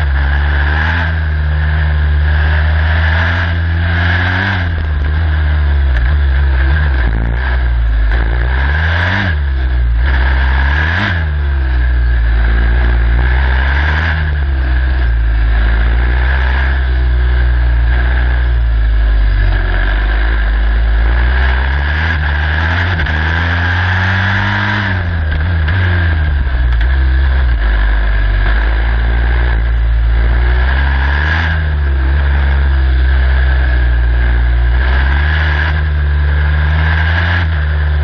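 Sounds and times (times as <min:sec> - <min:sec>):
racing car engine revving: 0:00.0 - 0:38.0.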